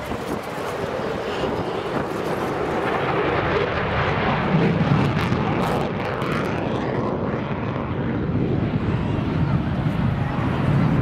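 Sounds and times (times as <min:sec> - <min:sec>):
jet fighter low pass roar: 0:00.0 - 0:11.0.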